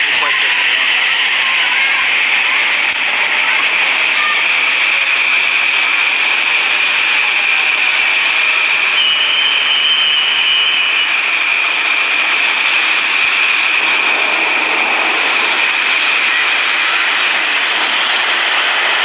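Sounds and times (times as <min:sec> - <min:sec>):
high-pitched train whine: 0:00.0 - 0:19.0
higher whine: 0:00.0 - 0:19.0
train wheels rushing on rails: 0:00.0 - 0:19.0.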